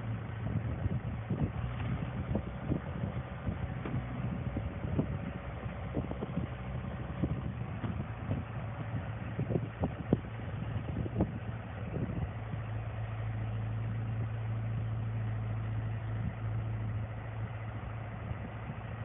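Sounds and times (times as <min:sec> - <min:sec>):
excavator diesel engine idling: 0:00.0 - 0:19.0.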